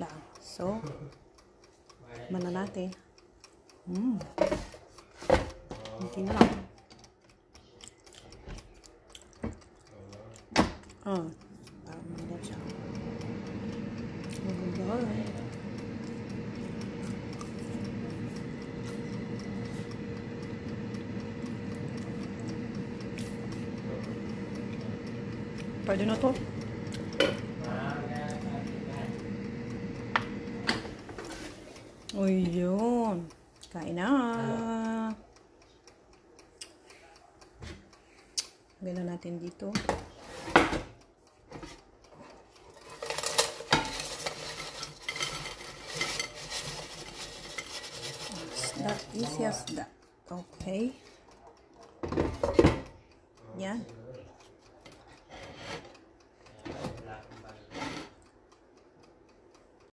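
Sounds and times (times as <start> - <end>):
air fryer fan hum: 0.0 - 7.4, 8.2 - 59.9.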